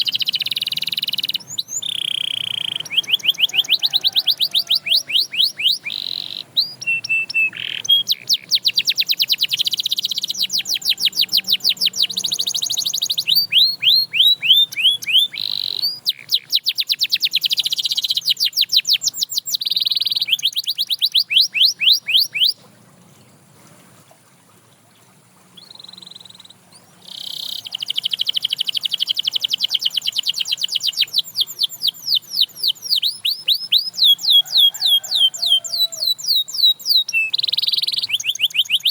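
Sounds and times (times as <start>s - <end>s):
canary singing trills: 0.0s - 22.7s, 25.5s - 38.9s.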